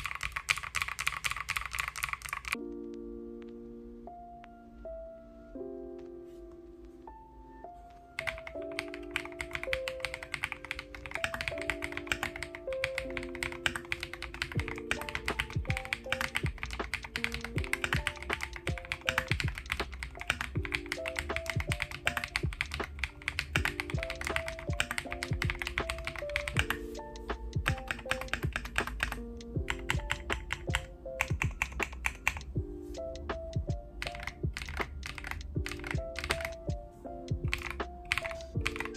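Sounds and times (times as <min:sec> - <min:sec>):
mechanical keyboard typing: 0:00.0 - 0:02.6, 0:08.2 - 0:32.6, 0:33.3 - 0:36.8, 0:37.4 - 0:38.9
soft background music: 0:01.8 - 0:38.9.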